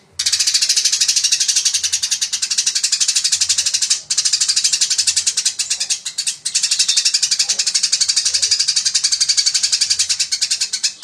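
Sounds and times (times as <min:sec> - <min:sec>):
sparrow rapid chirping: 0:00.0 - 0:11.0.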